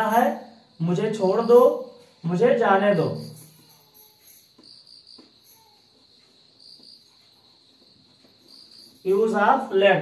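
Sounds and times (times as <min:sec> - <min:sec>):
faint cricket chirping: 0:00.0 - 0:10.0.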